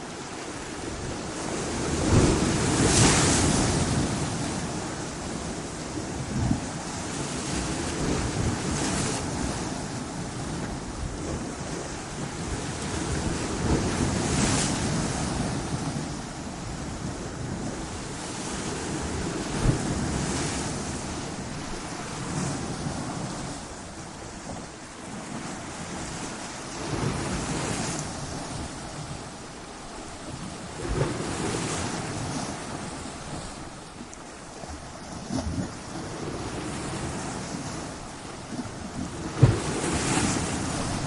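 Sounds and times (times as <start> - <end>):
ocean waves crashing on rocks: 0.0 - 41.0.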